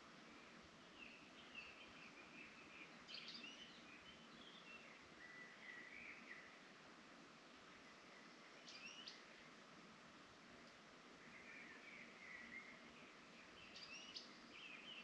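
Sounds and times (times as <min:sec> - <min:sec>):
background hiss: 0:00.0 - 0:15.0
faint birdsong: 0:00.0 - 0:15.0.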